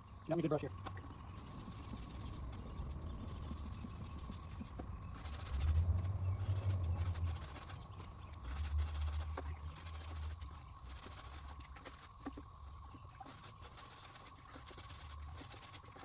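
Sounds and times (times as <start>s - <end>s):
brush scrubbing in soapy water: 1.3s - 16.0s.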